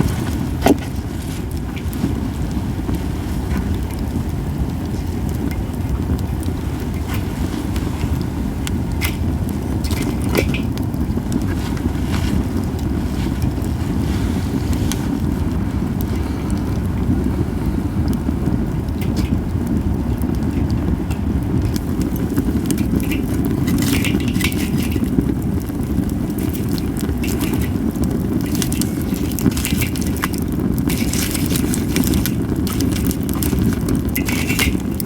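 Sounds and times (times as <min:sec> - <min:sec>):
campfire crackling: 0:00.0 - 0:35.0
sharp pops of fire: 0:00.0 - 0:35.0.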